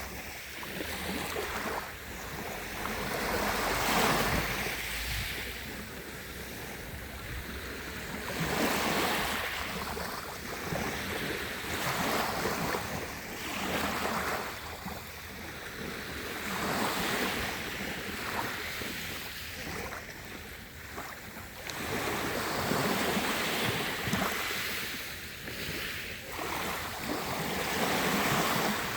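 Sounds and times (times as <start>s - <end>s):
sea waves washing in: 0.0s - 28.9s.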